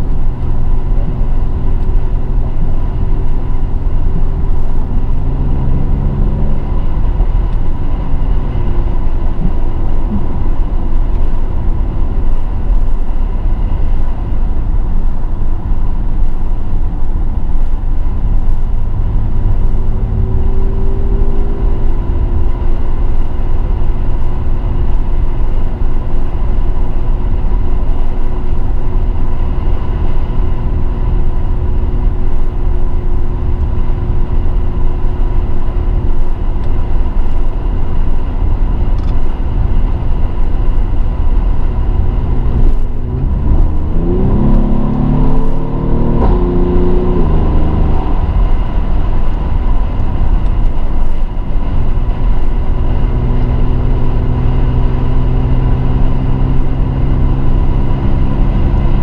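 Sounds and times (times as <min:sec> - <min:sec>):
car engine while driving: 0:00.0 - 0:59.0.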